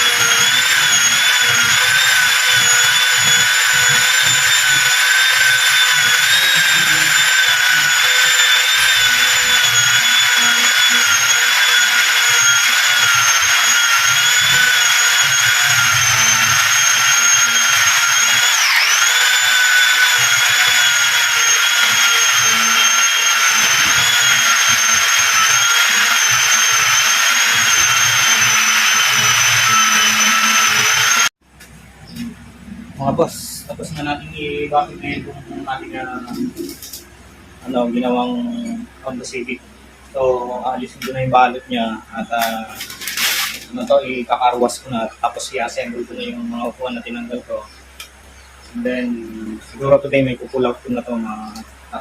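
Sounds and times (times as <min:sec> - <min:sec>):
power tool whining: 0:00.0 - 0:31.4, 0:33.1 - 0:39.6, 0:40.6 - 0:50.0, 0:50.6 - 0:52.0.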